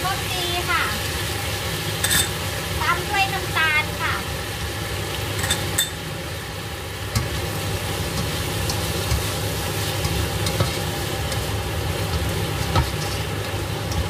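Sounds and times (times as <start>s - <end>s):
meat and vegetables sizzling in pan: 0.0s - 14.0s.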